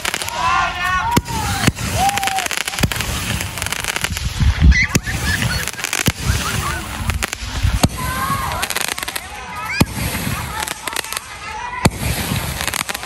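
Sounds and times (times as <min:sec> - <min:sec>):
firework fountain crackling: 0:00.0 - 0:13.0
firework pops: 0:01.1 - 0:13.0.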